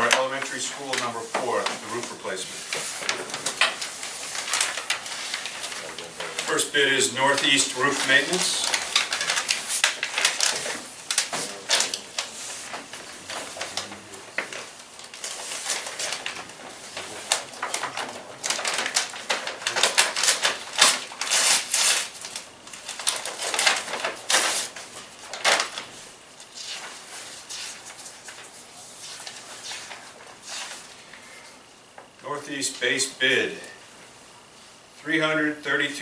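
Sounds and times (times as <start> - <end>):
paper rustling: 0.0 - 31.6.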